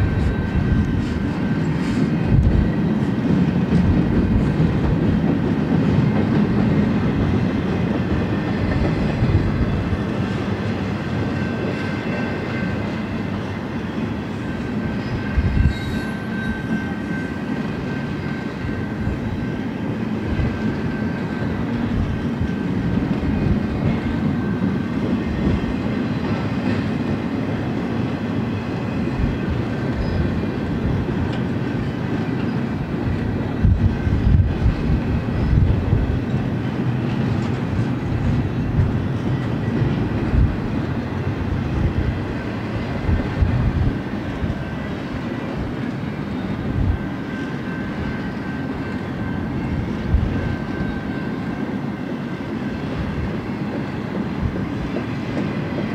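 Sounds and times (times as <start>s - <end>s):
train cars clanking: 0.0s - 55.9s
train wheels rumbling on rails: 0.0s - 55.9s.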